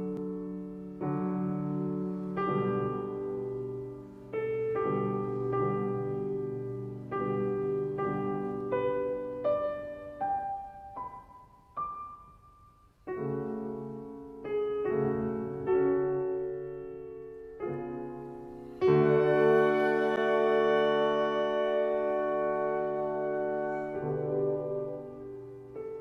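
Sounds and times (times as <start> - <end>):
slow instrumental music: 0.0 - 26.0.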